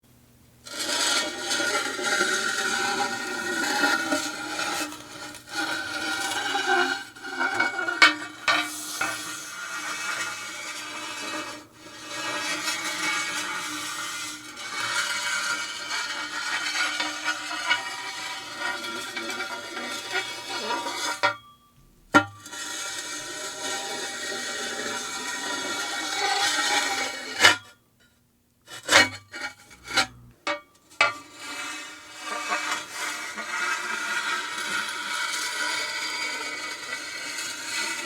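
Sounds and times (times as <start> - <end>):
long scraping sliding sound: 0.6 - 21.4, 22.4 - 27.7, 28.7 - 38.0.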